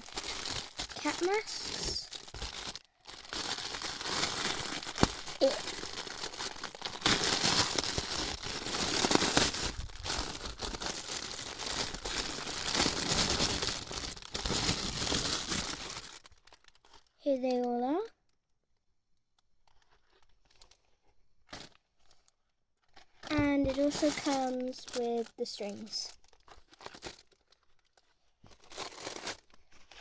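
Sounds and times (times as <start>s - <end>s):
packaging crinkling: 0.0s - 17.1s, 19.6s - 30.0s.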